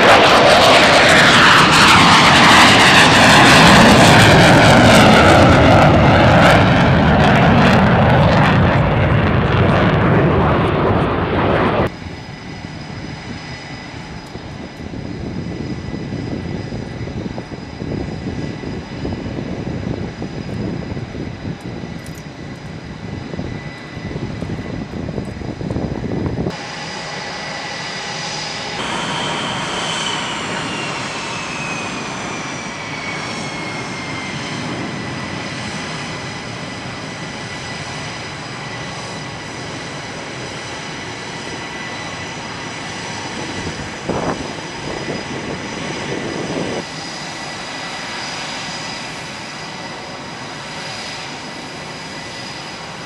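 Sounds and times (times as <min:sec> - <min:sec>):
jet engine rumble: 0:00.0 - 0:53.0
jet engine whine: 0:00.0 - 0:53.0.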